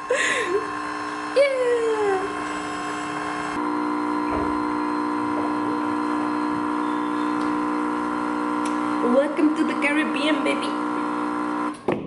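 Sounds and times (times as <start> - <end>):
coffee machine pump humming: 0.0 - 11.8.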